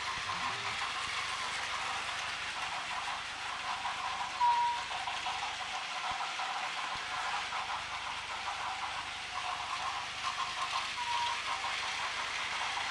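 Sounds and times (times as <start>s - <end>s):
toy trains whirring on track: 0.0s - 12.9s.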